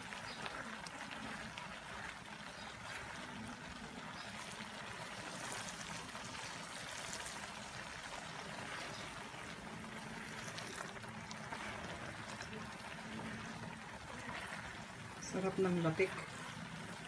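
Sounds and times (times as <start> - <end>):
liquid boiling with pops: 0.0 - 17.0
spatula stirring in a pan: 0.0 - 17.0.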